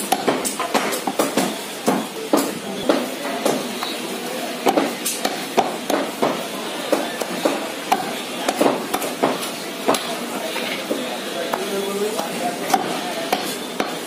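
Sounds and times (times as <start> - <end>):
knife chopping on wooden block: 0.0 - 3.9, 4.6 - 10.1, 11.5 - 14.0.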